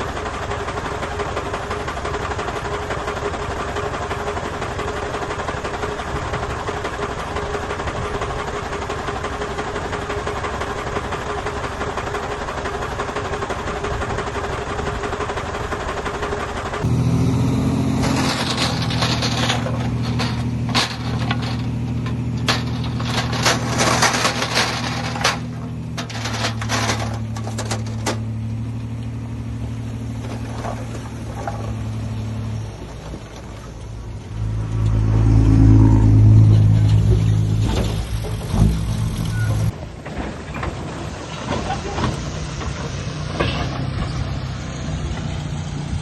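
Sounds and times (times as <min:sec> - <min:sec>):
metal clanks and rattles: 0:00.0 - 0:35.0, 0:36.4 - 0:44.3
heavy diesel engine running: 0:00.0 - 0:46.0.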